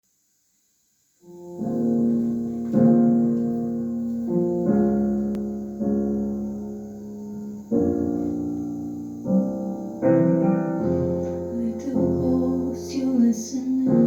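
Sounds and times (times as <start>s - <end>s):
piano playing slow chords: 1.2s - 14.0s.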